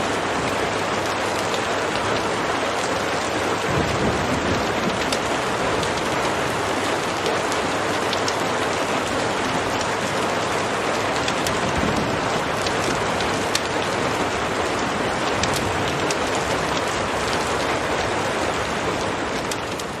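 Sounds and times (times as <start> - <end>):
heavy rain falling: 0.0 - 20.0
wood fire crackling and popping: 3.1 - 20.0.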